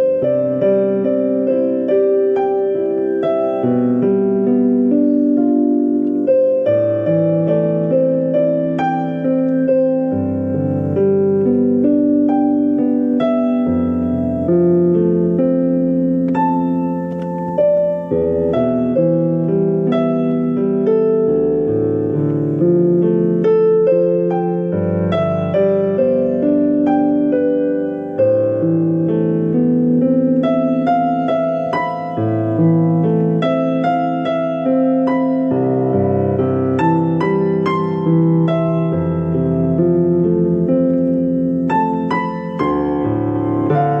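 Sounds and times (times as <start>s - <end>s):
piano playing slow chords: 0.0s - 44.0s.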